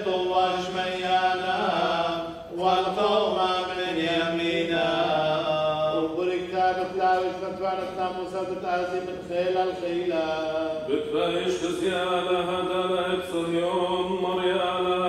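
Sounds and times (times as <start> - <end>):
men chanting a hymn: 0.0 - 15.0.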